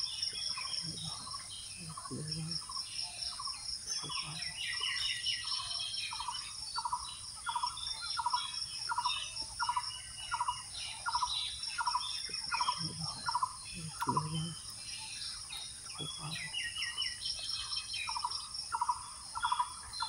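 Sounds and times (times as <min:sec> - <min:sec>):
birds chirping: 0:00.0 - 0:20.0
high insect drone: 0:00.0 - 0:20.0.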